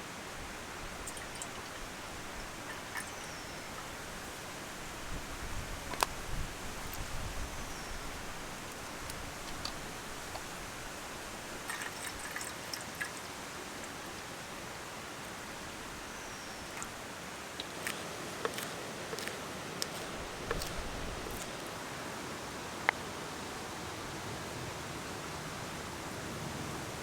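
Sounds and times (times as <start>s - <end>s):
stream rushing: 0.0s - 27.0s.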